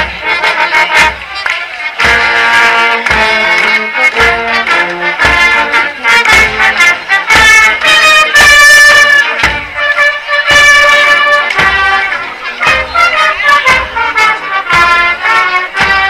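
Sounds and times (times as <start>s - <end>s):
brass band playing a march: 0.0s - 16.0s.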